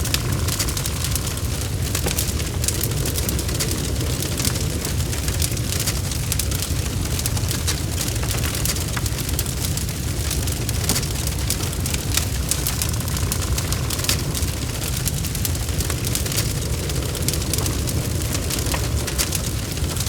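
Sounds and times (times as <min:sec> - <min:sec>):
fire roaring: 0:00.0 - 0:20.0
logs crackling and popping: 0:00.0 - 0:20.0.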